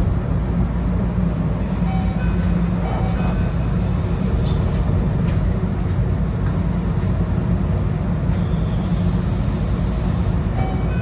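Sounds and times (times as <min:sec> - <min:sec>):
train electrical hum: 0:00.0 - 0:11.0.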